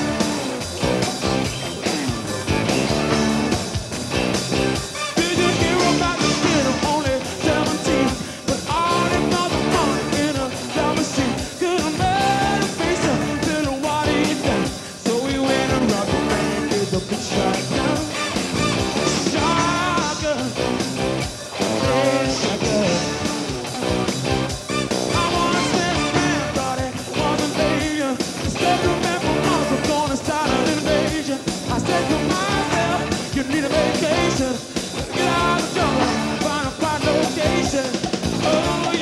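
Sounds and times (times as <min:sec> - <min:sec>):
rock band playing live: 0:00.0 - 0:39.0
person singing: 0:04.9 - 0:23.9, 0:25.0 - 0:39.0.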